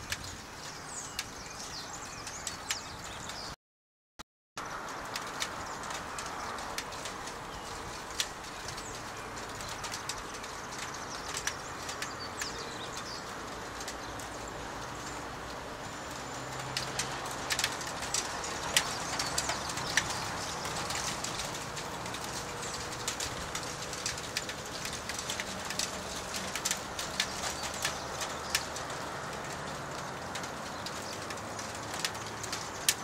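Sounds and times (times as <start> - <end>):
rain hissing: 4.6 - 33.0.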